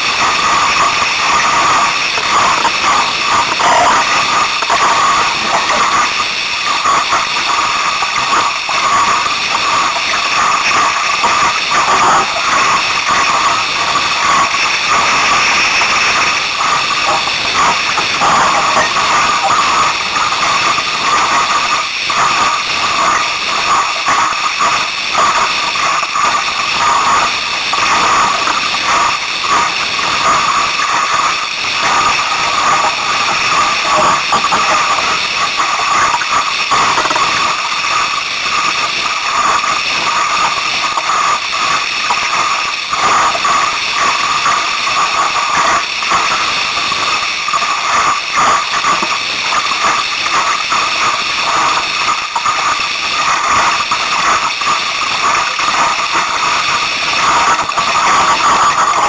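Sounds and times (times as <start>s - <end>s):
water splashing along hull: 0.0s - 59.0s.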